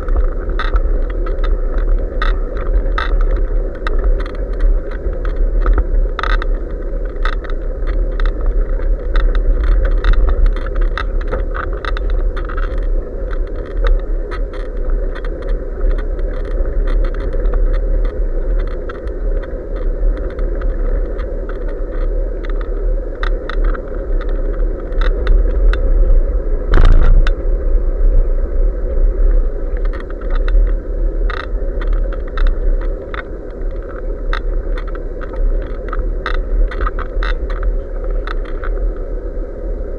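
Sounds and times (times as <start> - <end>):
small rattling clicks: 0.0 - 25.8, 29.8 - 38.8.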